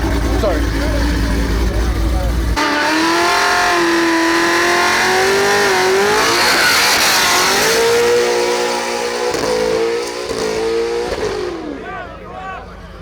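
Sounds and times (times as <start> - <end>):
car engines at full throttle: 0.0 - 13.0.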